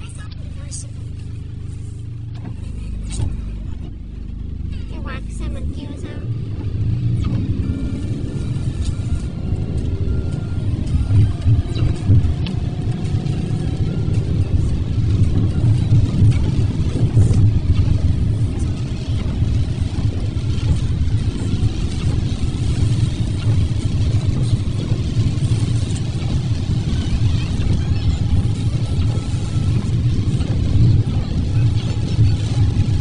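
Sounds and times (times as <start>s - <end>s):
tyres hissing on wet road: 0.0s - 3.2s, 4.9s - 33.0s
car road rumble inside cabin: 0.0s - 33.0s.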